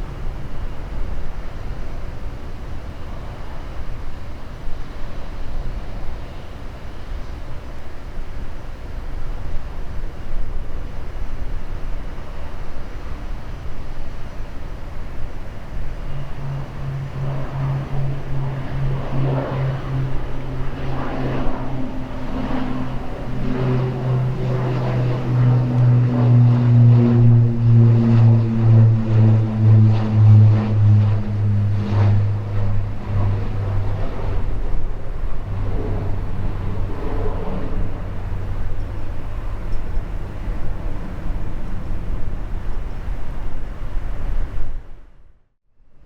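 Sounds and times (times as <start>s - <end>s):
turboprop plane droning: 0.0s - 45.5s.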